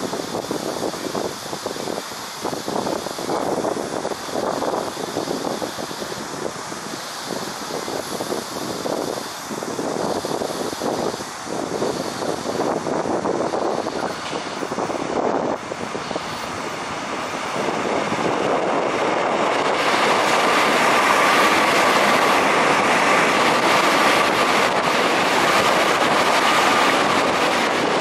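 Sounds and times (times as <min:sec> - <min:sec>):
train motor whine: 0:00.0 - 0:28.0
train wheel and running noise: 0:00.0 - 0:28.0.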